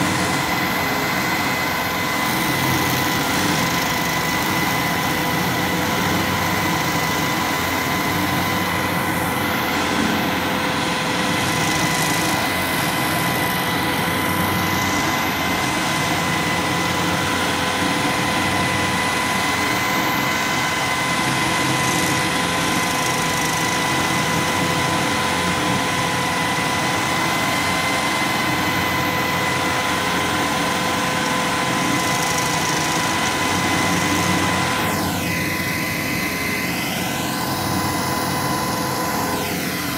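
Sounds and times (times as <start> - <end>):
stump grinder running: 0.0 - 39.9.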